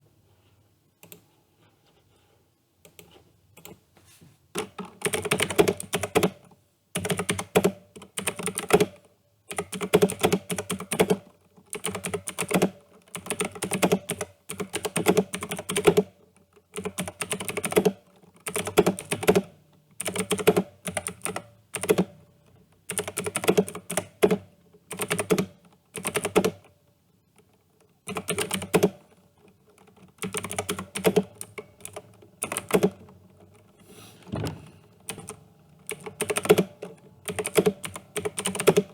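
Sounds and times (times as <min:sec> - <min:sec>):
keyboard typing: 0:04.6 - 0:26.8, 0:27.4 - 0:33.7, 0:34.3 - 0:38.9.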